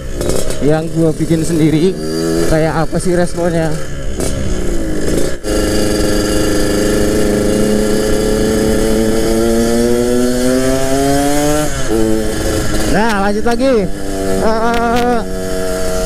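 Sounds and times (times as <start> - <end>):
two-stroke motorcycle engine: 0.0 - 16.0.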